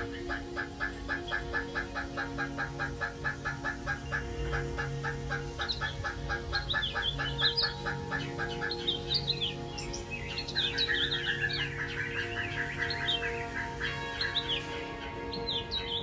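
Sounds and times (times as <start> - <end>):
background music: 0.0 - 16.0
birds chirping: 0.0 - 16.0.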